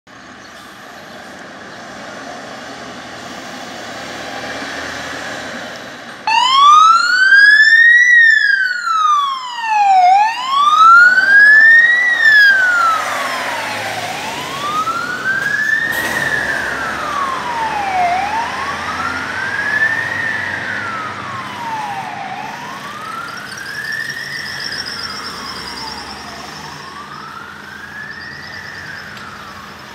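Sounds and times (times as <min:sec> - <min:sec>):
engine and road noise: 0:00.1 - 0:29.9
fire engine siren wailing: 0:02.5 - 0:29.9.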